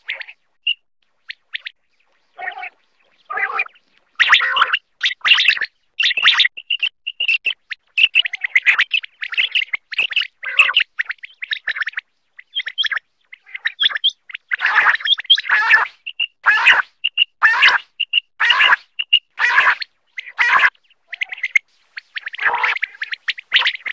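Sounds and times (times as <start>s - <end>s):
quail calling: 0.0s - 0.4s, 1.2s - 23.9s.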